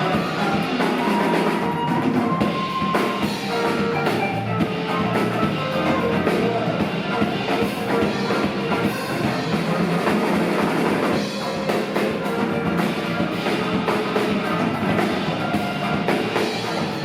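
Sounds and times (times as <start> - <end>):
drum kit: 0.0 - 17.0
guitar: 0.0 - 17.0
rock band playing: 0.0 - 17.0.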